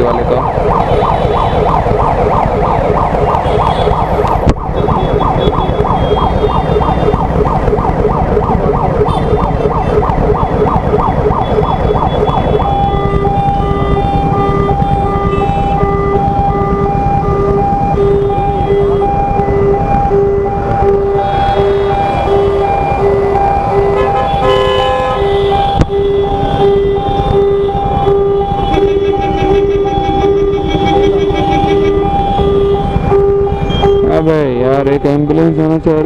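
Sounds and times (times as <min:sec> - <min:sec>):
ambulance siren: 0:00.0 - 0:36.0
idling traffic rumble: 0:00.0 - 0:36.0.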